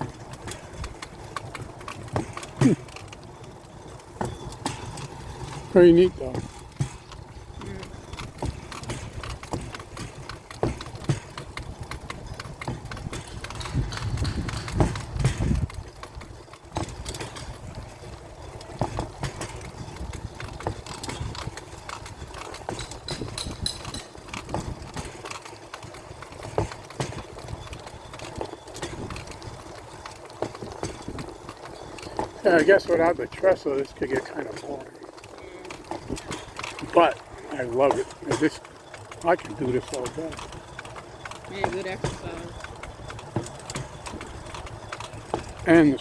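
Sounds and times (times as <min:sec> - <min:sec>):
steel wheels rumbling on track: 0:00.0 - 0:46.0.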